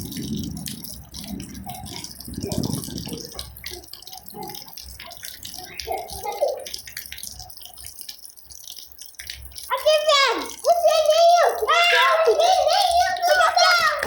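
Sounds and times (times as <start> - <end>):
water dripping: 0.0 - 14.0.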